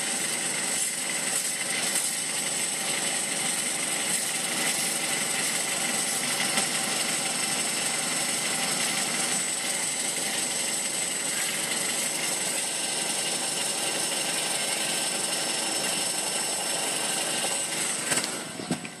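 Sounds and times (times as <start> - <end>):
car engine running: 0.0 - 19.0
chattering exhaust noise: 0.0 - 19.0.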